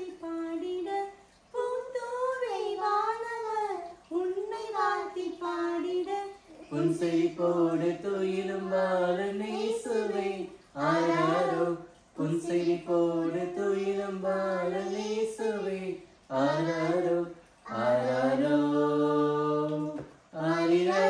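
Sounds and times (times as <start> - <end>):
lower voice singing: 0.0 - 21.0
woman and girls singing: 0.0 - 21.0.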